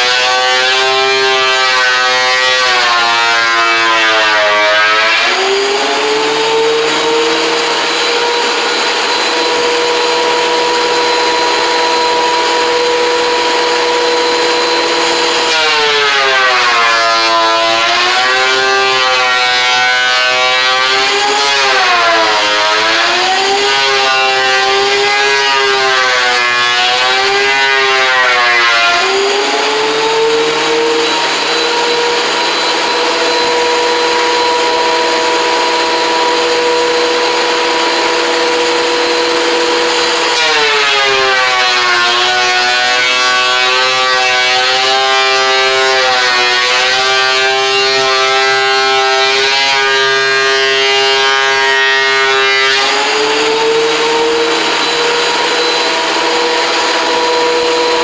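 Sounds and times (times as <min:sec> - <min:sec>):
woodworking machine motor whining: 0:00.0 - 0:58.0.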